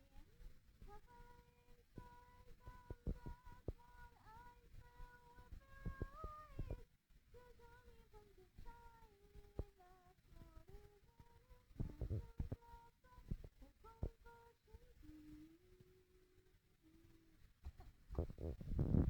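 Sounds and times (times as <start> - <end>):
person humming softly: 0.0 - 19.0.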